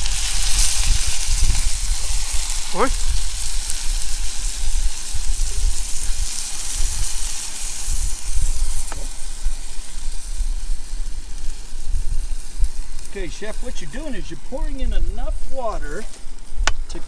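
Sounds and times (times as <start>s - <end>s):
water hissing in hot pot: 0.0s - 17.0s
wind rumbling on microphone: 0.0s - 17.0s.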